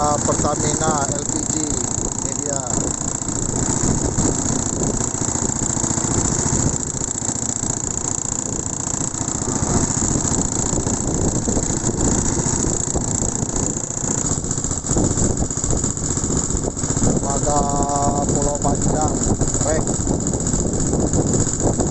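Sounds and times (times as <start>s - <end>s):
wind blowing across microphone: 0.0s - 7.0s, 7.8s - 21.9s.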